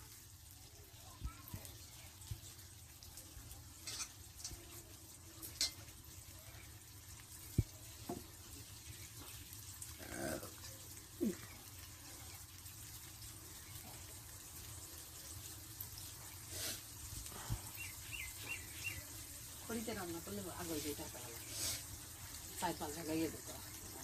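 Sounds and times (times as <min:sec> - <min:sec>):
curry sizzling in a pan: 0:00.0 - 0:24.0.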